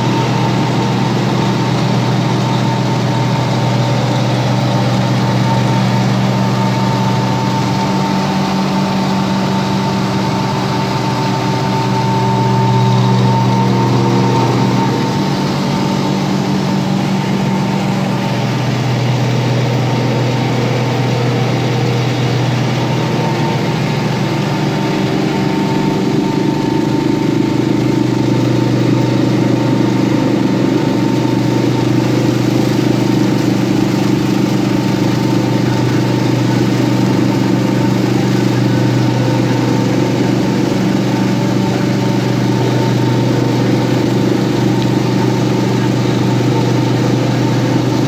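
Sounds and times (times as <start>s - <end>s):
grinding mill and blower drone: 0.0s - 48.0s.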